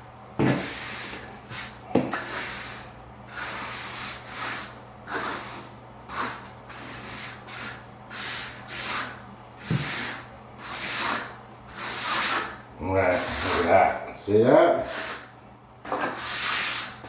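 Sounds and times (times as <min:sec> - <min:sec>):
hand float scraping mortar: 0:00.4 - 0:14.0, 0:14.7 - 0:15.3, 0:15.9 - 0:17.0.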